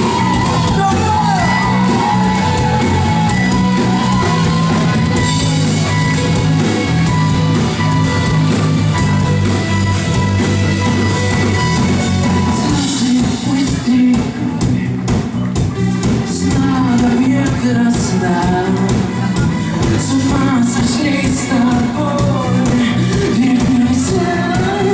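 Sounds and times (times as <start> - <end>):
distorted electric guitar chords: 0.0 - 24.9
drum kit: 0.0 - 24.9
held lead guitar line: 0.0 - 24.9.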